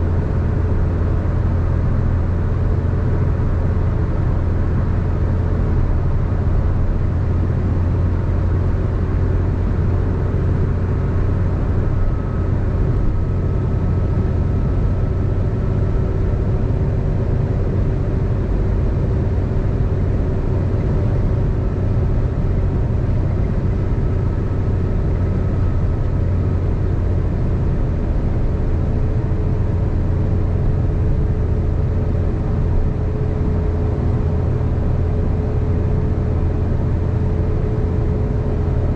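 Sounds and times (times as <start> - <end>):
faint engine hum: 0.0 - 38.9.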